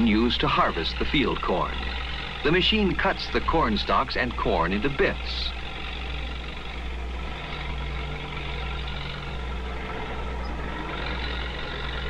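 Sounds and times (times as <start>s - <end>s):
tractor and harvester droning: 0.0s - 12.0s.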